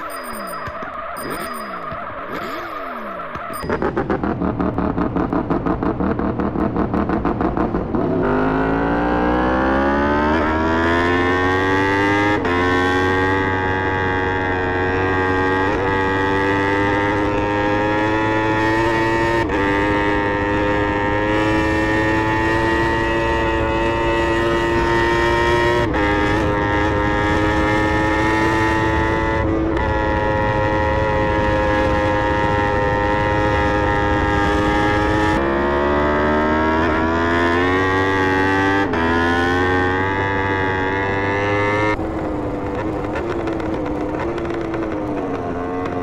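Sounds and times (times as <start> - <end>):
motorcycle engine revving high: 0.0 - 46.0.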